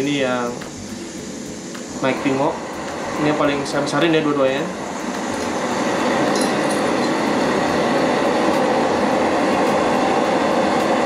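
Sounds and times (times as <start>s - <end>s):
gas stove burner rushing: 0.0s - 11.0s.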